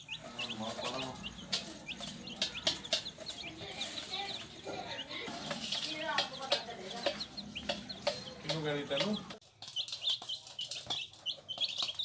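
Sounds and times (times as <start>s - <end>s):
baby chicks peeping: 0.0s - 12.0s
hen clucking: 0.0s - 12.0s.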